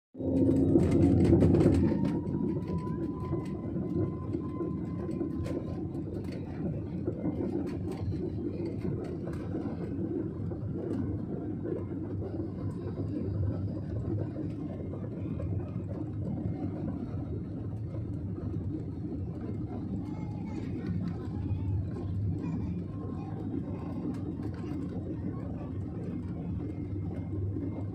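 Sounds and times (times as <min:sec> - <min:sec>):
faint steady whine: 0:00.2 - 0:27.9
jet cabin rumble: 0:00.2 - 0:27.9.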